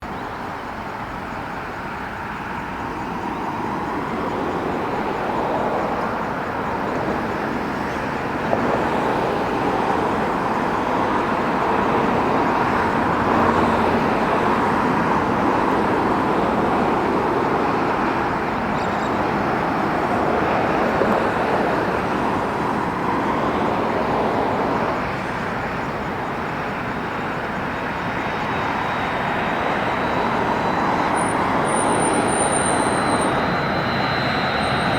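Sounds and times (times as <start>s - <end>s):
jet engines: 0.0s - 34.9s.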